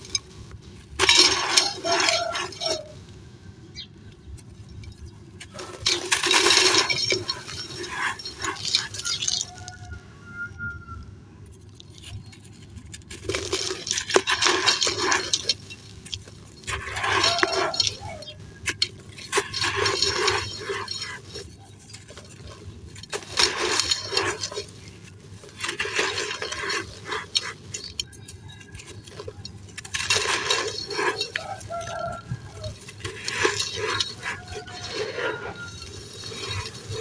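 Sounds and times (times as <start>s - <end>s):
sand crumbling into a pot: 0.0s - 10.1s, 11.5s - 37.0s.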